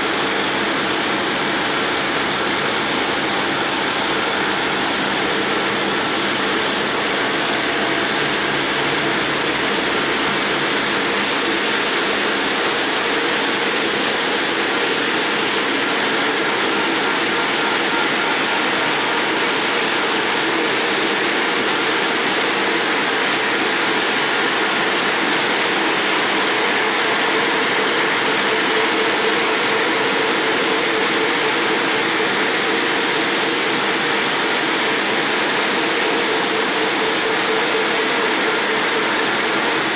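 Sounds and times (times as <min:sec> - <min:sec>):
saw cutting stone with water spray: 0:00.0 - 0:39.9.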